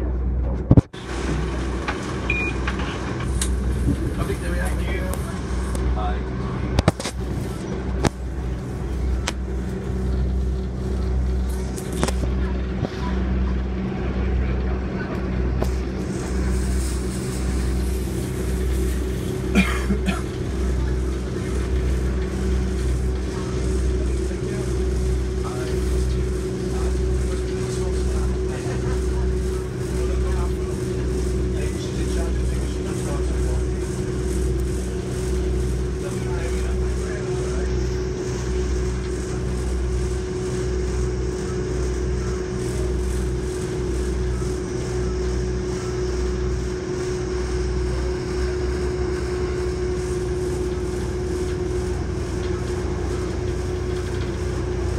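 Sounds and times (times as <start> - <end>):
train interior rumble and drone: 0.0 - 54.9.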